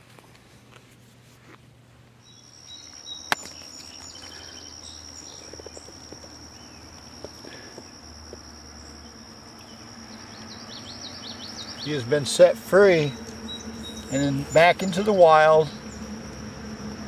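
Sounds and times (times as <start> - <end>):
insect trilling: 2.3 - 17.0.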